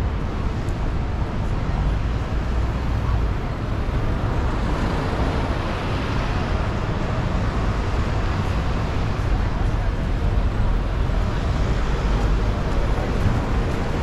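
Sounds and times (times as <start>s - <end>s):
cars and buses passing: 0.0s - 14.0s
deep traffic rumble: 0.0s - 14.0s.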